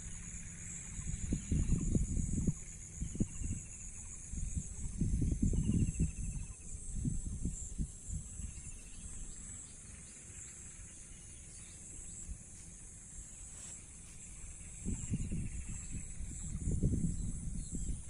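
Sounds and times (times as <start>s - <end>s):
crickets chirping chorus: 0.0s - 18.0s
wind rumble on microphone: 0.0s - 18.0s.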